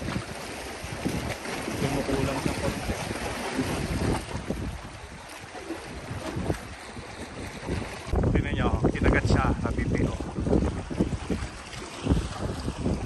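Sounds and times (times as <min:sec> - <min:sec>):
water lapping against rocks: 0:00.0 - 0:13.0
wind gusting on microphone: 0:00.0 - 0:13.0.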